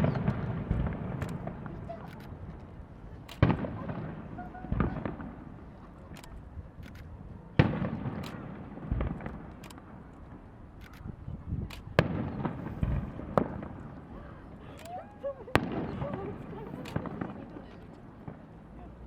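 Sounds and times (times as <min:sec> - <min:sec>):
crackling fireworks pops: 0:00.0 - 0:19.0
dull fireworks booms: 0:00.0 - 0:19.0.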